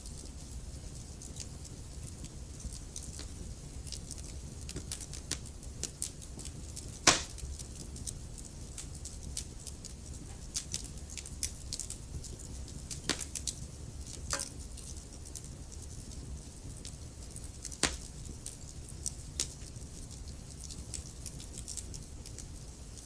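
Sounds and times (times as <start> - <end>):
low fire rumble: 0.0 - 23.0
small sharp fire crackles: 0.0 - 23.0
loud wood fire pops: 0.1 - 23.0.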